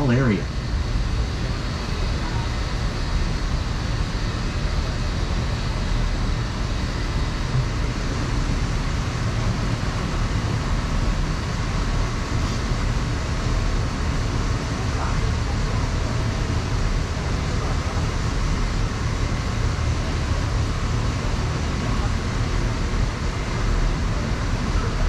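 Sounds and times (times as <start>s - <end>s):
boat running rumble and hiss: 0.0s - 25.0s.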